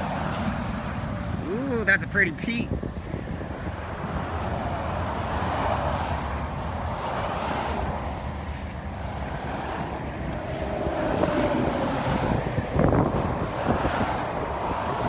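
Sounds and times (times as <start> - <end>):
highway traffic passing: 0.0 - 15.0
wind buffeting microphone: 0.0 - 15.0.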